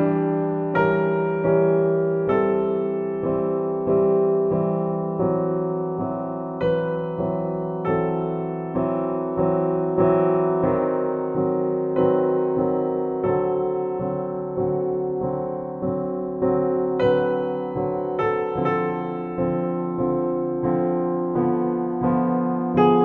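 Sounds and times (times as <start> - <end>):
slow gentle piano music: 0.0 - 23.0.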